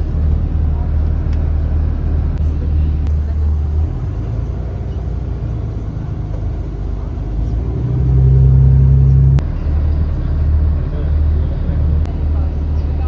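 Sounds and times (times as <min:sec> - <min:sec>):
engine rumble with hum: 0:00.0 - 0:13.0.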